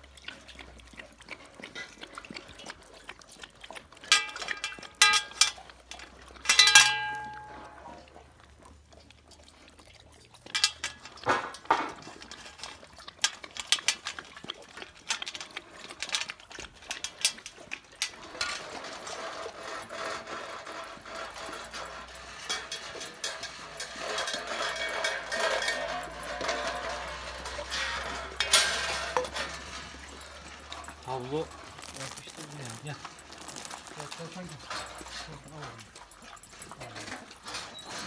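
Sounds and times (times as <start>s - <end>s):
dog lapping and eating: 0.0s - 38.0s.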